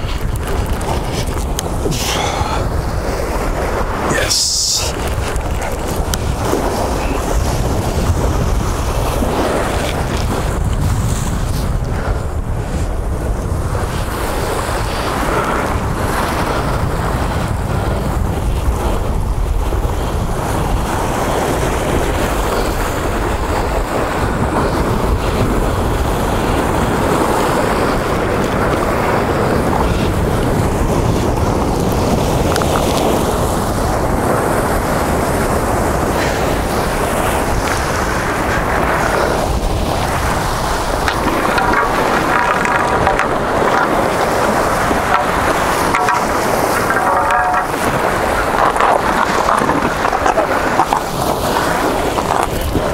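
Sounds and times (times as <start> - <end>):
ocean surf: 0.0 - 52.9
wind buffeting microphone: 0.0 - 52.9.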